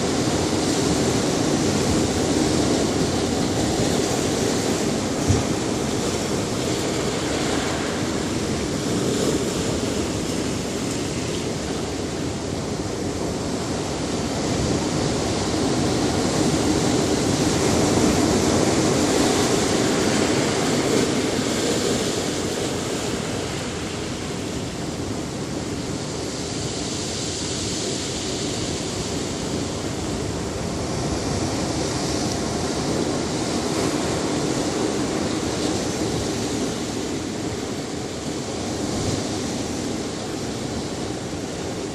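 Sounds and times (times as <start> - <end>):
ocean surf breaking waves: 0.0 - 41.9.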